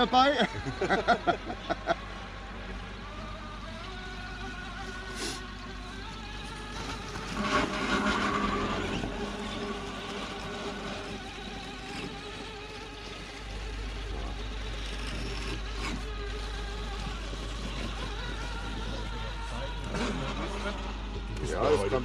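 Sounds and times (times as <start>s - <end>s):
electric motors whining: 0.0s - 22.0s
low hum: 0.6s - 22.0s.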